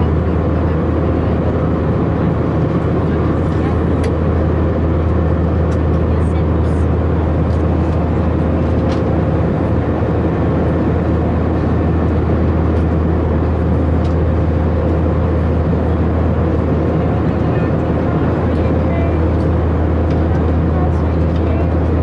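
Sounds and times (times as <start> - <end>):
jet engine drone: 0.0 - 22.0
strong low hum: 0.0 - 22.0.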